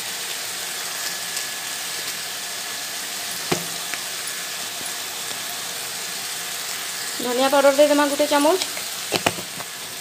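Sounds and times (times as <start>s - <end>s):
masala sizzling in oil: 0.0s - 10.0s.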